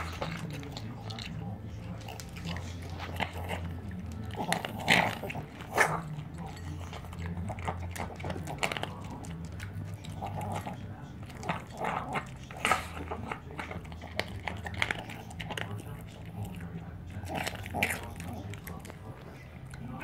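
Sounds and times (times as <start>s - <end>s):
dog crunching kibble: 0.0s - 20.0s.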